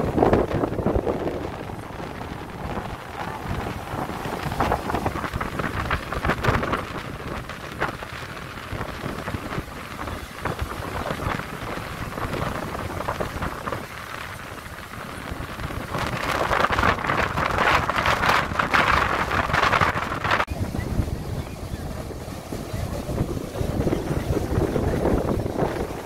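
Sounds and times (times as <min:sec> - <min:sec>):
foam fizzing: 0:00.0 - 0:26.0
small waves washing on sand: 0:00.0 - 0:26.0
wind noise on microphone: 0:00.0 - 0:26.0.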